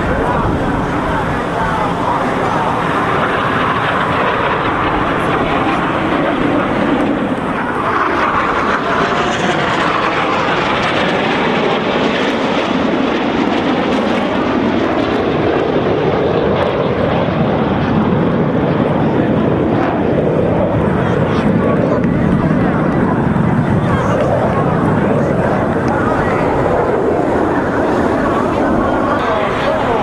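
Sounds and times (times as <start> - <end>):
jets flying past: 0.0 - 30.0.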